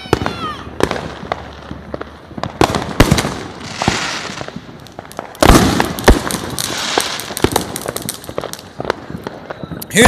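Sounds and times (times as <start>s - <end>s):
fireworks bangs: 0.0s - 10.0s
fireworks crackling and hissing: 0.0s - 10.0s.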